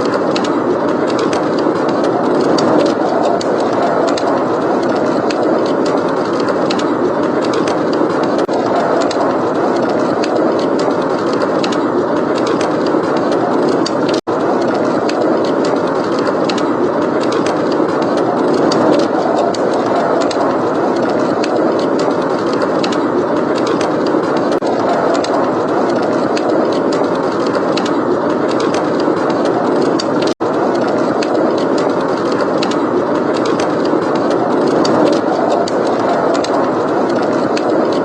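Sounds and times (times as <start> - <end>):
blizzard wind: 0.0 - 38.0
wood fire crackling: 0.0 - 38.0.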